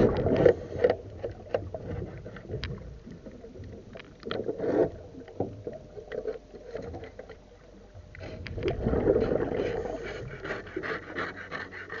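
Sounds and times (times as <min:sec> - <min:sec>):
scraping against a hull underwater: 0:00.0 - 0:12.0.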